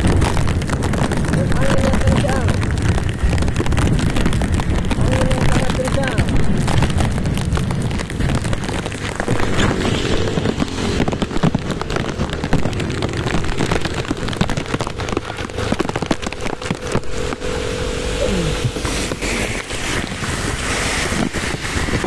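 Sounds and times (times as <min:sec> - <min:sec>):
low rumble: 0:00.0 - 0:22.0
raindrops crackling near microphone: 0:00.0 - 0:22.0
rush of heavy rain: 0:00.0 - 0:22.0.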